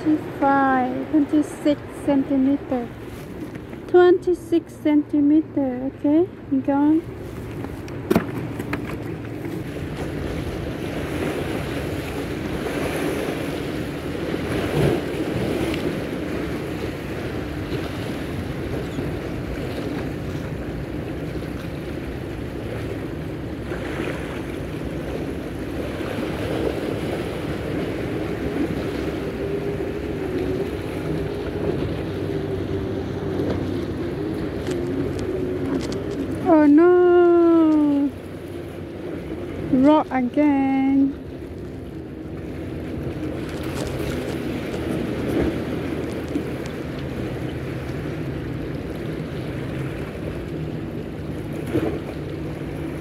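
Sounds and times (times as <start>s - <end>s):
motorboats droning: 0.0s - 53.0s.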